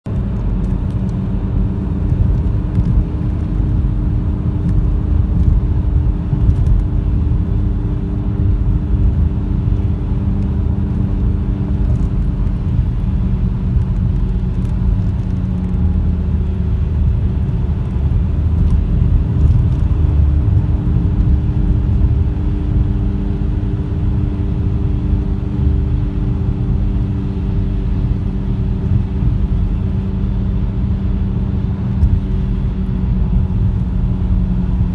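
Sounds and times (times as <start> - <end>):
car road and drivetrain rumble: 0.0 - 34.9.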